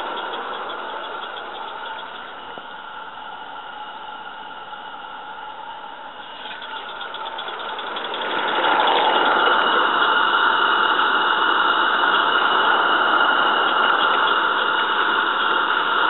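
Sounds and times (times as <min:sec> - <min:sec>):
model steam locomotive running beat: 0:00.0 - 0:16.0.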